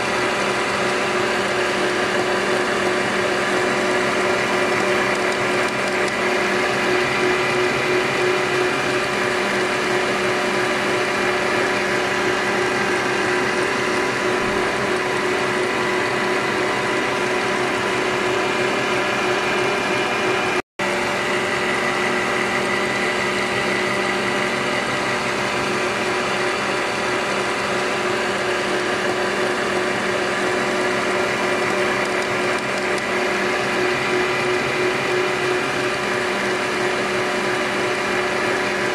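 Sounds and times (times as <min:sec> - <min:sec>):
stand mixer motor whine: 0:00.0 - 0:38.9.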